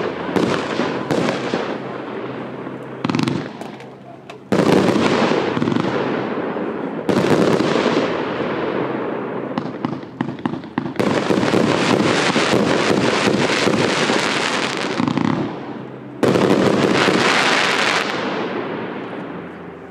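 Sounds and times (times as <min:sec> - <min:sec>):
fireworks bursting and crackling: 0:00.0 - 0:19.7.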